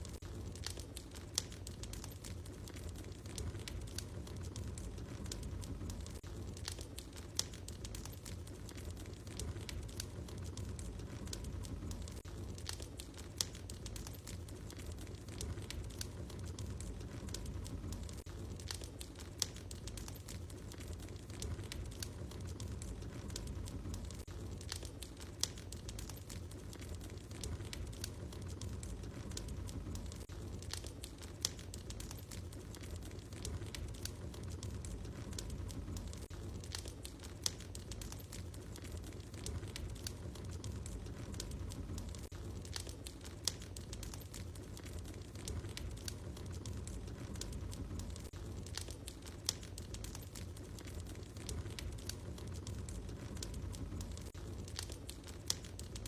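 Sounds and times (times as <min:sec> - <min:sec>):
low rumble: 0:00.0 - 0:56.0
wood fire crackling and popping: 0:00.0 - 0:56.0.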